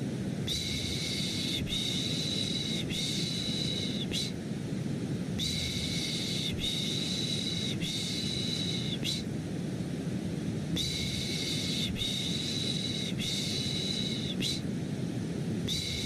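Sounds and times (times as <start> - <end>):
steady low white noise: 0.0 - 16.0.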